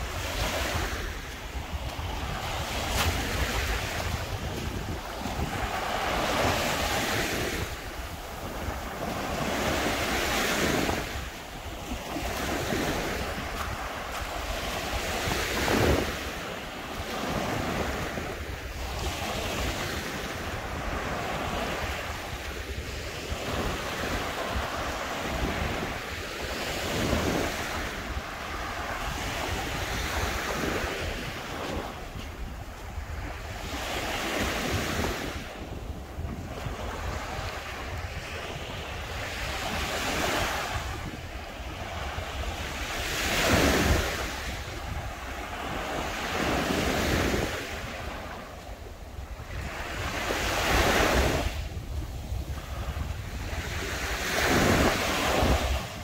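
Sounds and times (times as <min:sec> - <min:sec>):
waves breaking on beach: 0:00.0 - 0:56.0
wind rumbling on microphone: 0:00.0 - 0:56.0.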